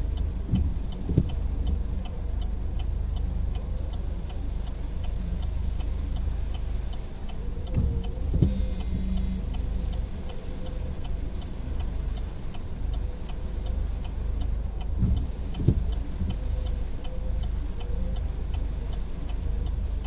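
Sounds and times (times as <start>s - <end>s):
engine and road hum: 0.0s - 20.0s
turn signal ticking: 0.0s - 20.0s
windshield wiper sweeping: 0.0s - 20.0s.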